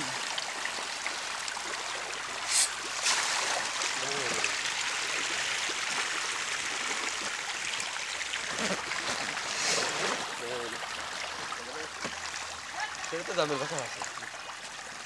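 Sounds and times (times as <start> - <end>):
pond water splashing: 0.0 - 15.0.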